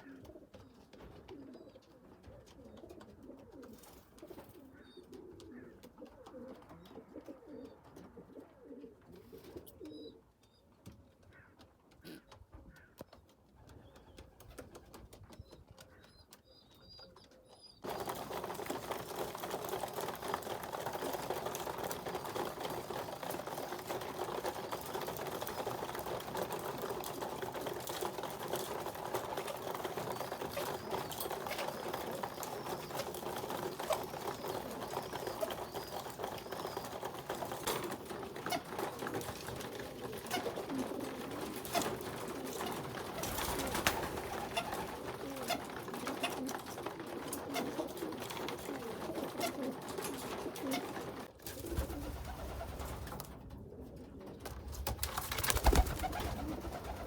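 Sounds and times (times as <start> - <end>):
pigeons cooing: 0.0 - 10.2, 17.0 - 57.0.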